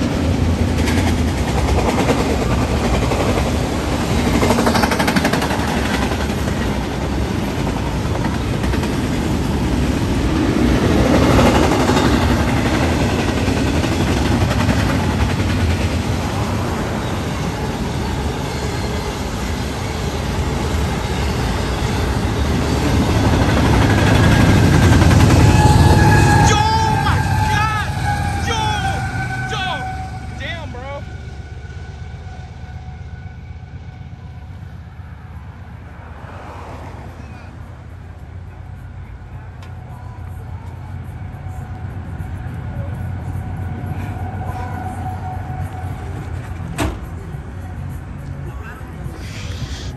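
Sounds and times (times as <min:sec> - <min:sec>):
freight train passing: 0:00.0 - 0:49.9.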